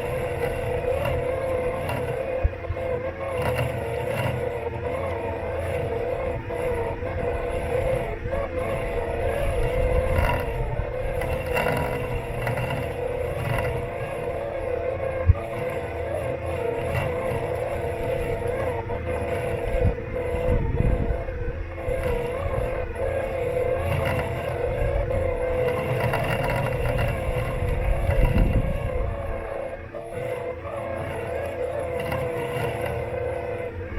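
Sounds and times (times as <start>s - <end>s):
robot lawn mower motors whining: 0.0s - 33.9s.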